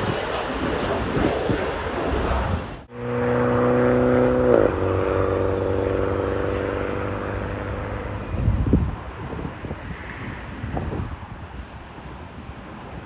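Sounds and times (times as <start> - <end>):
jet aircraft engines passing: 0.0 - 13.0
wind gusting on microphone: 0.0 - 13.0.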